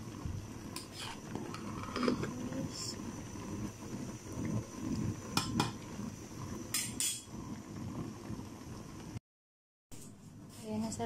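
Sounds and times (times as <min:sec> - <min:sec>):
boiling water bubbling: 0:00.0 - 0:09.2.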